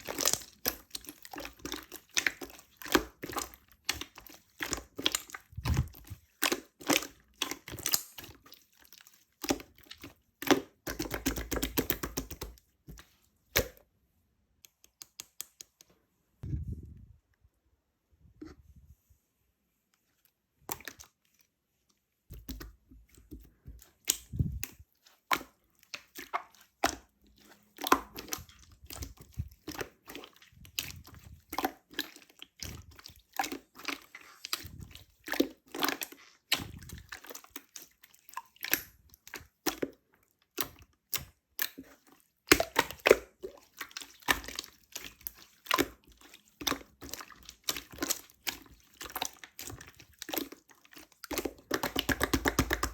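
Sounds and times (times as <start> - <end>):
slime squished by hand: 0.0 - 13.9, 22.3 - 52.9.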